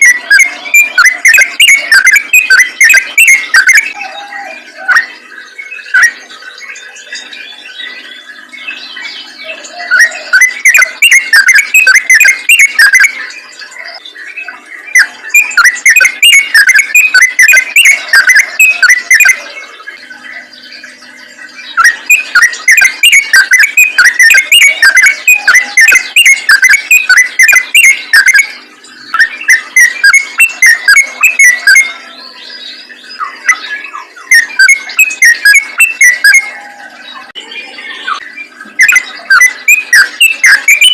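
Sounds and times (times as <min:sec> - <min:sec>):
bulbul singing chattering notes: 0:00.0 - 0:40.9.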